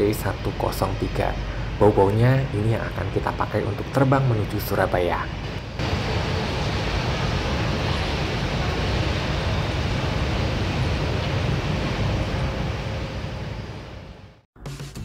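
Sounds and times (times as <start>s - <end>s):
faint steady whine: 0.0s - 14.4s
jet engines idling: 0.0s - 14.5s.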